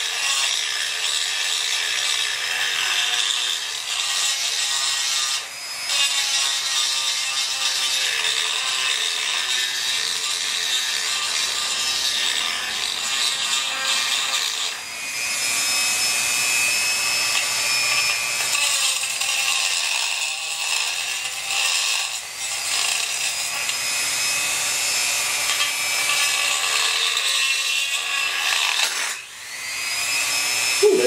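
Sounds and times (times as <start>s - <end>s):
rotary tool grinding metal: 0.0s - 31.0s.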